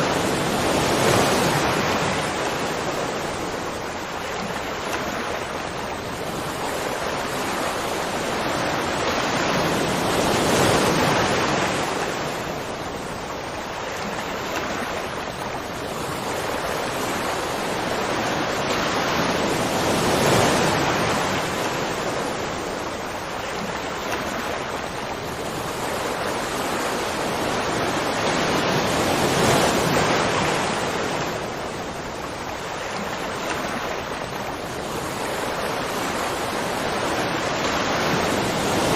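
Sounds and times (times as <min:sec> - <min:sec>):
rushing splashing water: 0:00.0 - 0:38.9.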